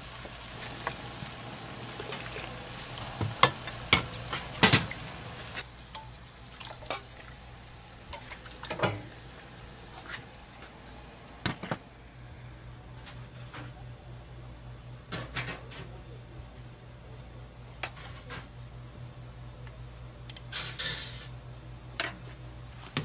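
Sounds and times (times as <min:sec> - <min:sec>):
low hum: 0:00.0 - 0:20.4.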